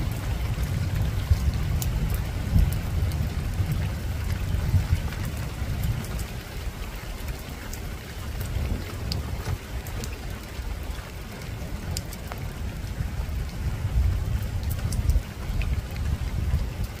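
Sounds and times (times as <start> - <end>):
rain on a rooftop: 0.0 - 17.0.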